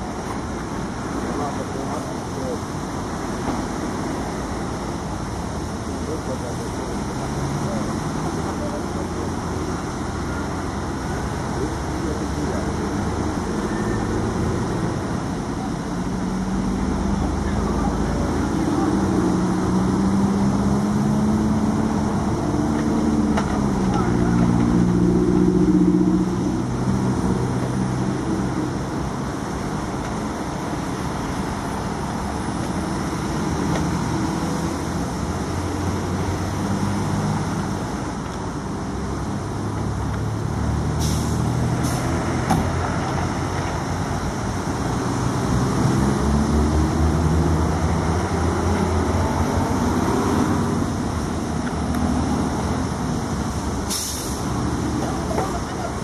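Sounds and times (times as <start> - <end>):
diesel engines running: 0.0 - 56.0
motorway traffic rumble: 0.0 - 56.0.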